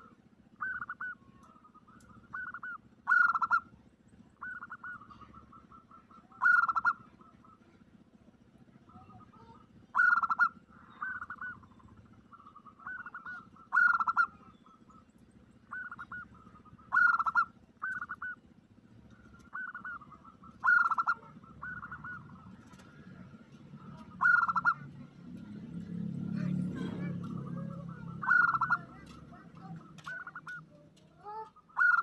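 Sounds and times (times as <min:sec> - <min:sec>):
doves cooing: 0:00.0 - 0:32.0.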